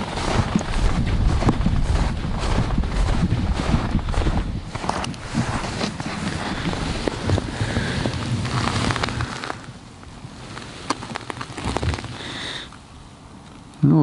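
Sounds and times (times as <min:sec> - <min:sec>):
footsteps crunching in snow: 0:00.0 - 0:12.7
wind buffeting microphone: 0:00.0 - 0:13.2.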